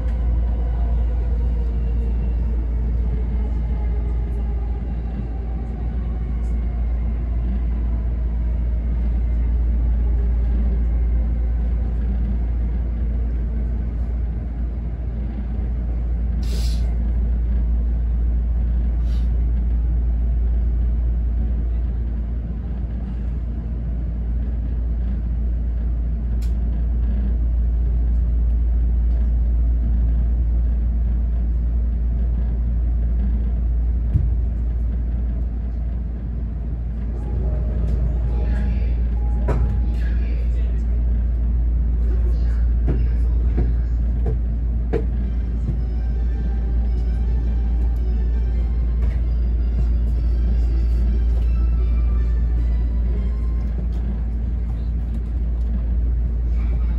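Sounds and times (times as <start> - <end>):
low rumble: 0.0 - 56.9.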